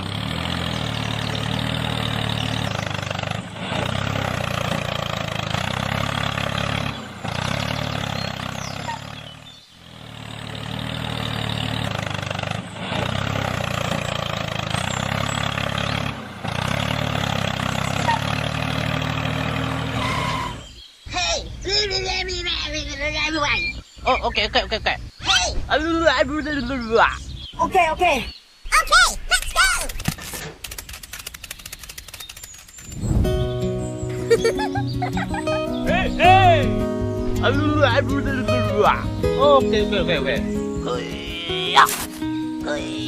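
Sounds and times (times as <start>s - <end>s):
tractor engine running: 0.0s - 20.8s, 28.7s - 43.0s.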